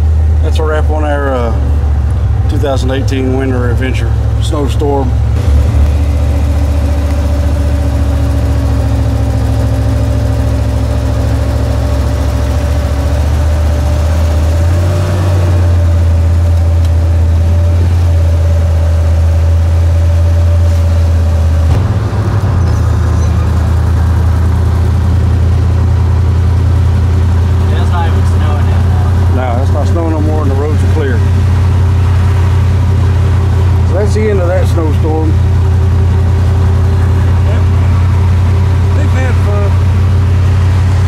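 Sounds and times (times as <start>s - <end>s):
car engine droning: 0.0s - 41.0s.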